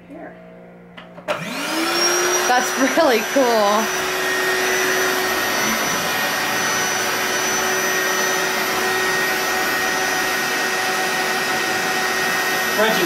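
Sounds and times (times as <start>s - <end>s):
electric air pump running: 1.0s - 13.0s.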